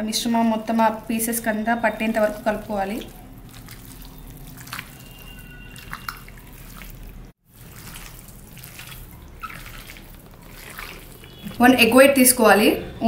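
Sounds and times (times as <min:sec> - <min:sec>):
hand squelching wet marinade: 0:00.0 - 0:13.0.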